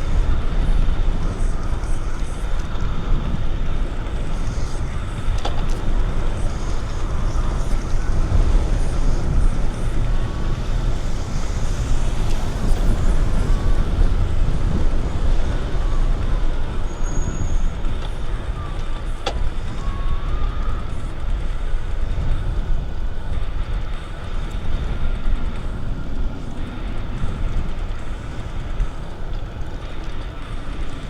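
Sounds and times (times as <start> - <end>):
bicycle rolling noise: 0.0 - 31.0
steady wind noise: 0.0 - 31.0.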